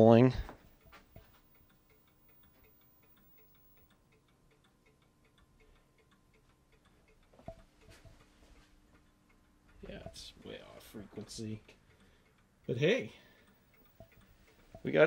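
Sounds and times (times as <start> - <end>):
faint regular ticking: 0.0 - 15.0
faint steady hum: 0.0 - 15.0.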